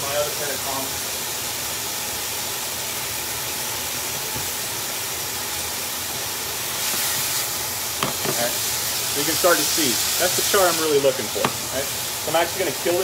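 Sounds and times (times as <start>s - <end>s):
beef sizzling in a hot pan: 0.0s - 13.0s.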